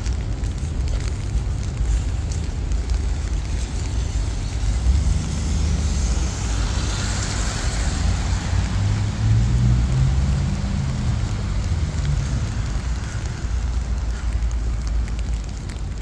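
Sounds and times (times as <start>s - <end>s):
steady rain: 0.0s - 16.0s
vehicle tyre hiss on wet road: 0.0s - 16.0s.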